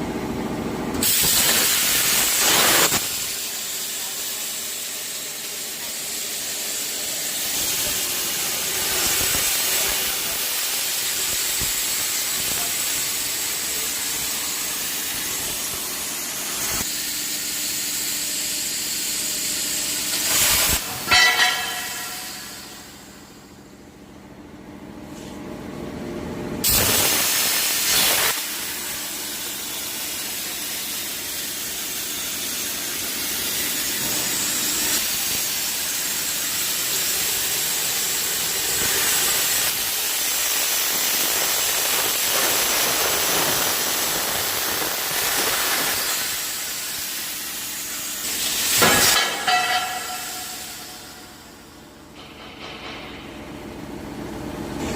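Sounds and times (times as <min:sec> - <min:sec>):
cutting torch hissing: 0:01.0 - 0:20.9, 0:26.6 - 0:51.5.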